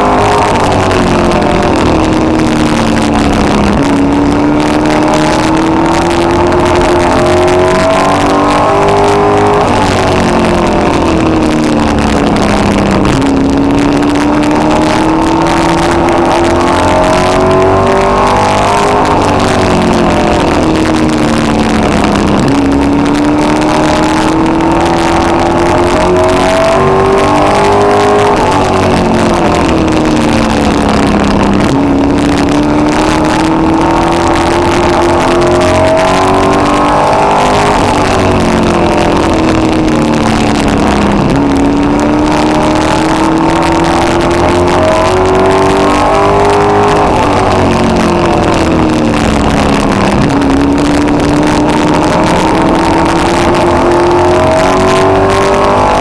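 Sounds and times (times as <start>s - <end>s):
race car engine at speed: 0.0s - 56.0s.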